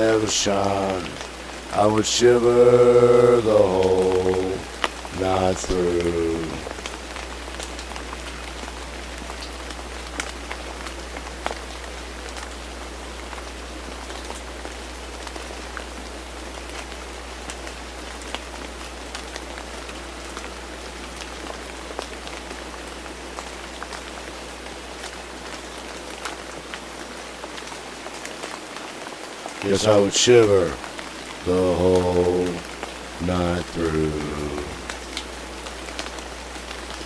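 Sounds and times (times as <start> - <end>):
low steady hum: 0.0 - 27.2, 29.6 - 37.0
steady rain falling: 0.0 - 37.0.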